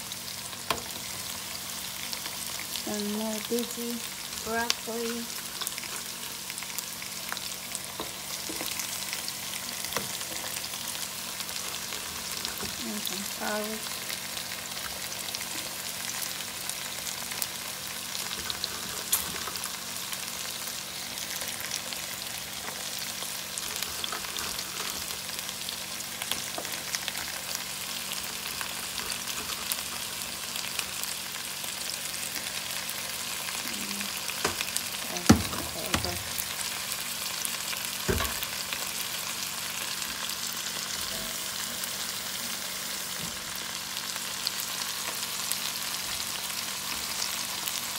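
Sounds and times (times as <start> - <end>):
sausages sizzling in frying pan: 0.0 - 47.9.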